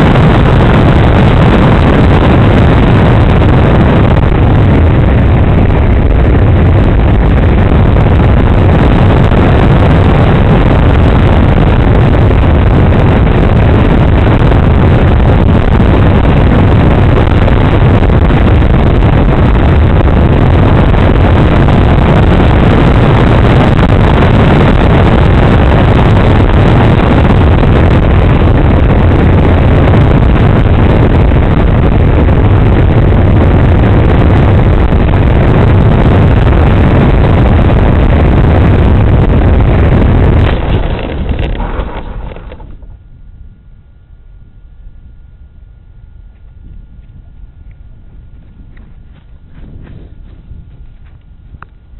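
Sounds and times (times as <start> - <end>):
model airplane motor and wind rush: 0.0 - 51.9.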